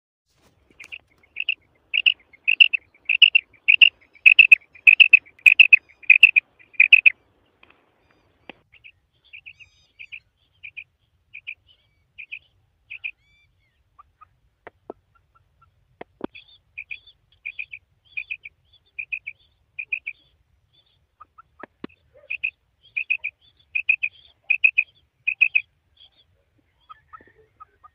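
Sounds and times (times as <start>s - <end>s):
quail calling: 0.4s - 27.9s.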